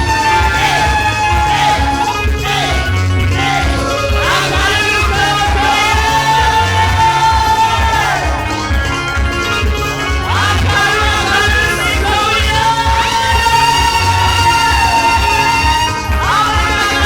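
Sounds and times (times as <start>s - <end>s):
band with pulsing bass beat: 0.0s - 17.0s
person singing long high note: 0.0s - 17.0s.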